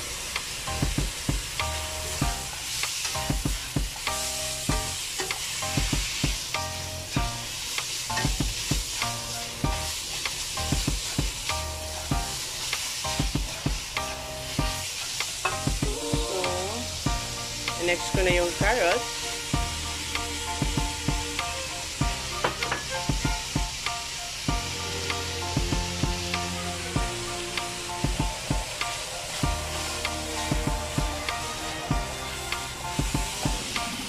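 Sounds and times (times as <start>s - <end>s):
meat sizzling in a wok: 0.0s - 34.0s.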